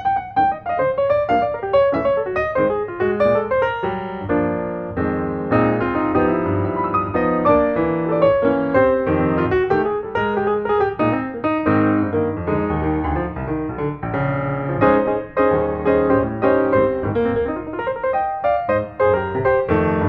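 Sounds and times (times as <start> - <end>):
piano playing flowing run: 0.0 - 20.0.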